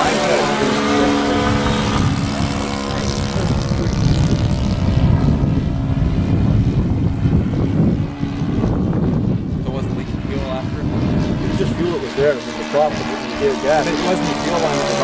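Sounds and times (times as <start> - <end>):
low rumble: 0.0 - 15.0
model airplane engine droning: 0.0 - 15.0.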